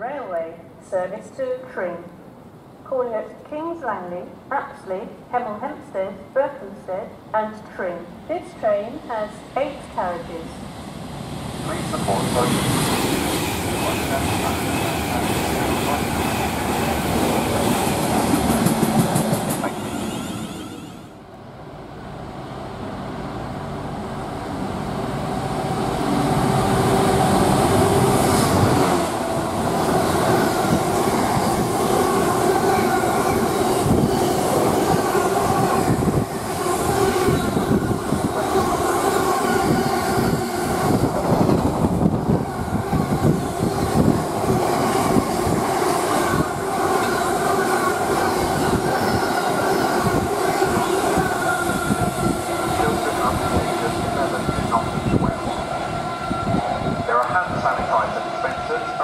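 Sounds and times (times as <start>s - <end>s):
diesel locomotive engine: 8.3s - 59.0s.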